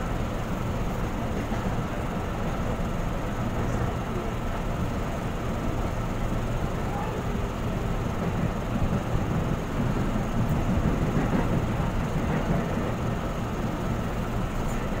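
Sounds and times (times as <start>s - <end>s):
electric train rumbling on track: 0.0s - 15.0s.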